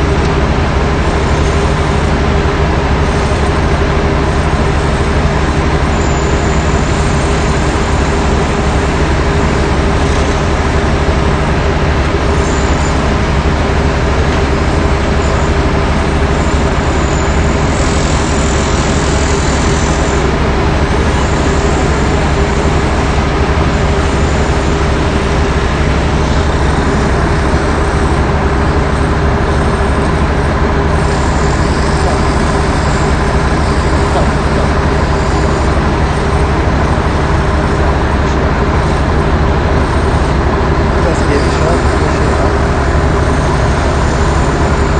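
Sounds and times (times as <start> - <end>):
heavy machinery engine droning: 0.0 - 44.9.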